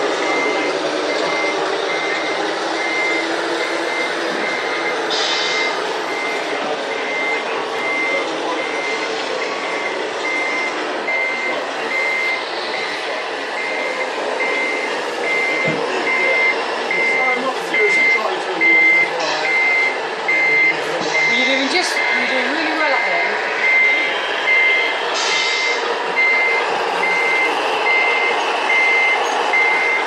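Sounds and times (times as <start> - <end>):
model truck reversing beeper: 0.0 - 30.0.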